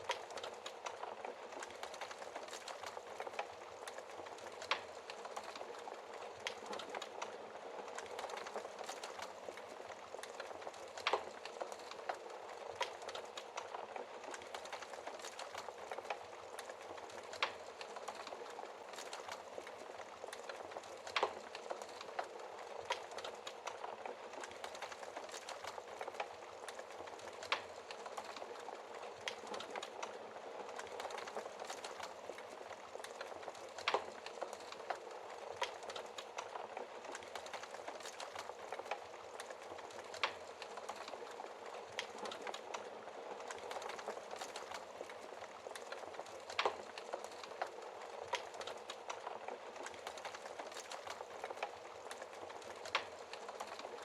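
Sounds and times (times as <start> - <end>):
wood fire crackling: 0.0 - 54.0
burning wood popping: 0.1 - 54.0.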